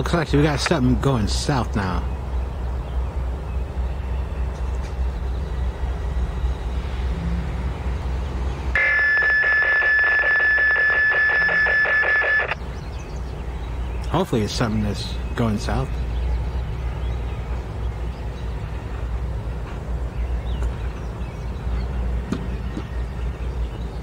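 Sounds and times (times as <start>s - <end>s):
diesel locomotive rumbling: 0.0s - 10.8s, 12.5s - 24.0s.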